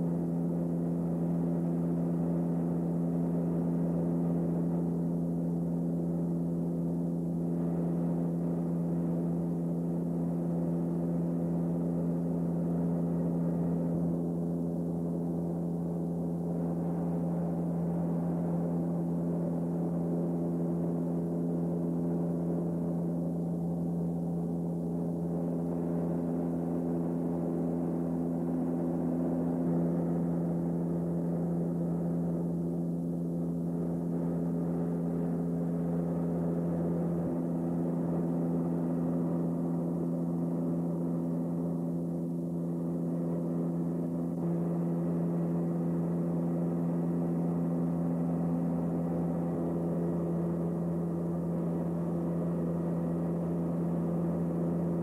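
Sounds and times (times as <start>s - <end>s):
turboprop cabin drone: 0.0s - 55.0s.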